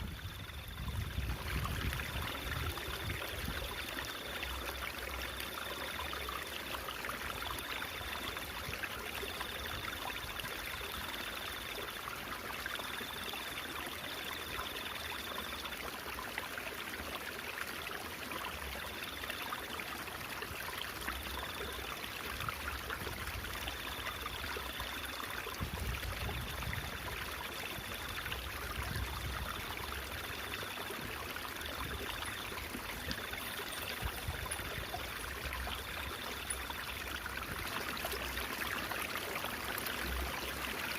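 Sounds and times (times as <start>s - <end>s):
babbling stream water: 0.0s - 40.9s.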